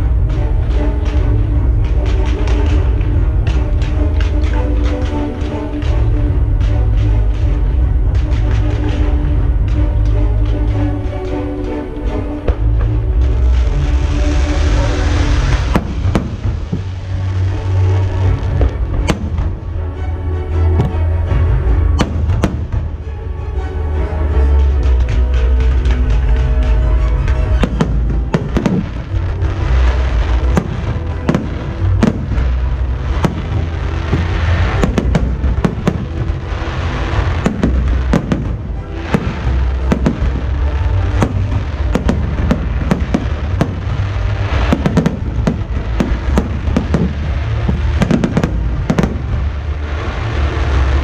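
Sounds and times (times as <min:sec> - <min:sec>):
fireworks bursting and crackling: 0:00.0 - 0:20.0, 0:20.6 - 0:23.1, 0:24.1 - 0:51.0
music with heavy bass: 0:00.0 - 0:51.0.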